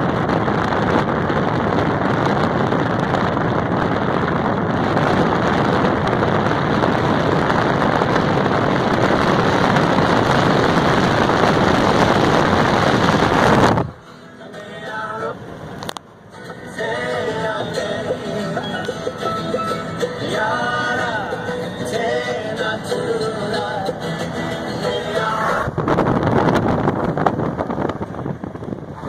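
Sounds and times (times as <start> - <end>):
wind buffeting microphone: 0.0 - 14.1, 16.7 - 29.0
wind and road noise: 0.0 - 29.0.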